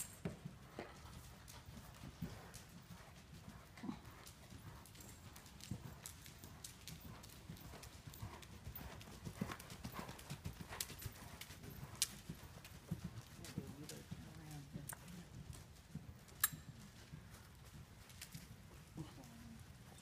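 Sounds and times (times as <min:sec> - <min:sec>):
hoofbeats on soft ground: 0:00.0 - 0:20.0.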